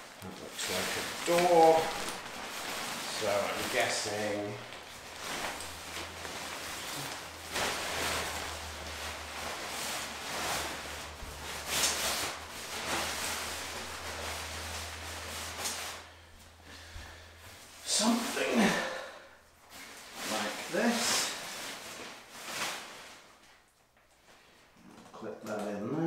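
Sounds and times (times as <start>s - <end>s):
nylon tent fly rustling: 0.0s - 23.6s.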